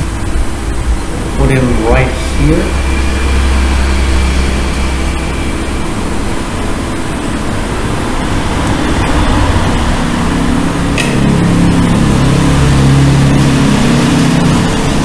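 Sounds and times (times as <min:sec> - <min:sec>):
loud rushing machine noise: 0:00.0 - 0:15.0
low hum: 0:00.0 - 0:15.0.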